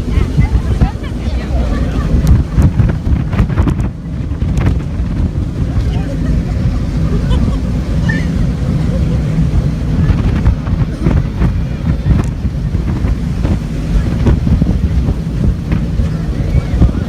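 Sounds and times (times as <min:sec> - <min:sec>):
boat engine low rumble: 0:00.0 - 0:17.0
wind buffeting microphone: 0:00.0 - 0:17.0.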